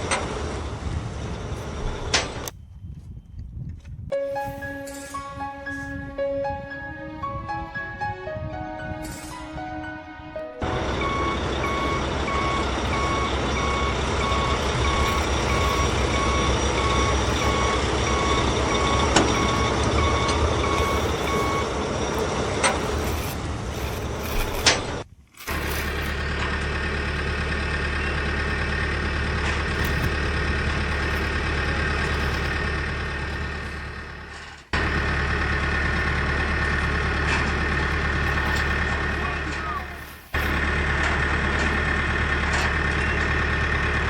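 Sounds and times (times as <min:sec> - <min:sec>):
truck engine rumble: 0:00.0 - 0:44.0
truck reversing beeper: 0:00.0 - 0:44.0.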